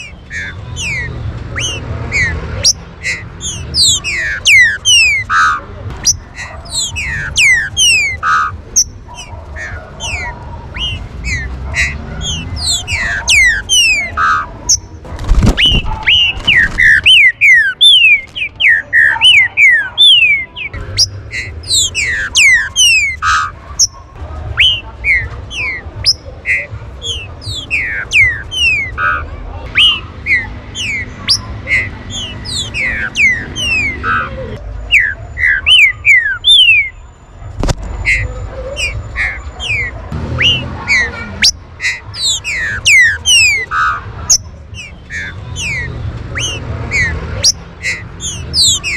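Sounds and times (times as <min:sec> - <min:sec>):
bird whistling calls: 0:00.0 - 0:37.0, 0:38.0 - 0:48.9.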